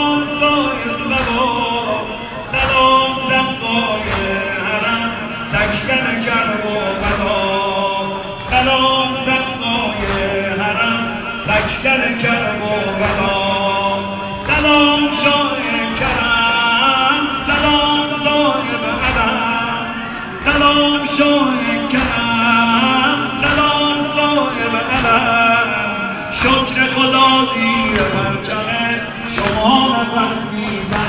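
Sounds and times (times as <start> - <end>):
men chanting a lament: 0.0 - 31.0
rhythmic chest-beating slaps: 0.0 - 31.0.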